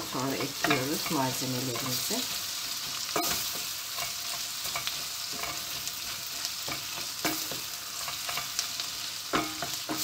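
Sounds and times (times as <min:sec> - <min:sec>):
vegetables sizzling in a pot: 0:00.0 - 0:10.0.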